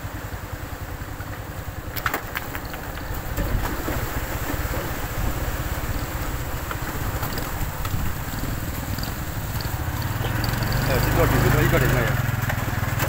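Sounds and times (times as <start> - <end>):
small motorcycle engine running: 0.0 - 13.0
wind buffeting microphone: 1.7 - 12.4.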